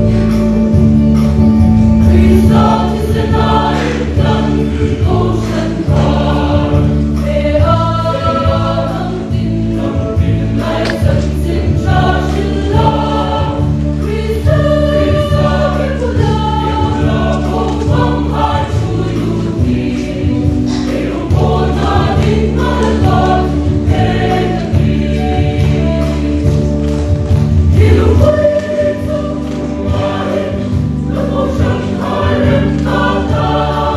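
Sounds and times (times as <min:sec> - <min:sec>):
choir singing a hymn: 0:00.0 - 0:33.9
instrumental accompaniment: 0:00.0 - 0:33.9.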